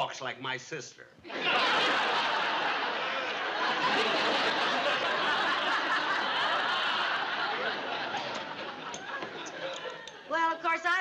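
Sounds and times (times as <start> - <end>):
studio audience laughing: 1.3 - 10.3.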